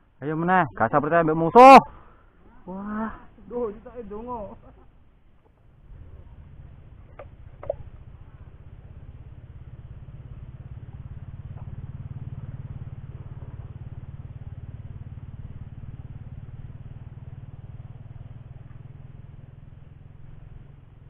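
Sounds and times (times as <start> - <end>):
small engine droning: 0.0 - 21.0.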